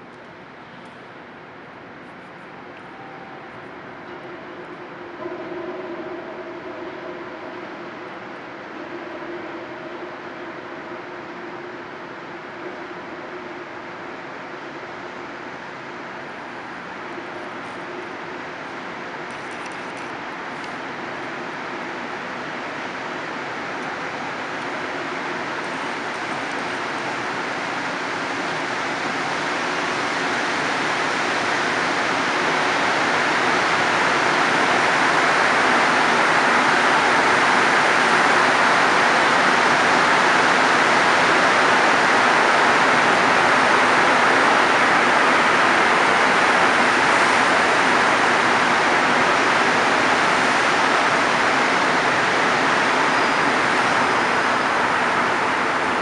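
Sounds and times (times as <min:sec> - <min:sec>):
subway train rolling past: 0:00.0 - 0:56.0.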